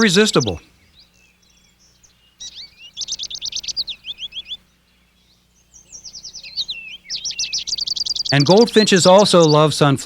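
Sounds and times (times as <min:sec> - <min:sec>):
finches twittering: 0:00.0 - 0:10.0.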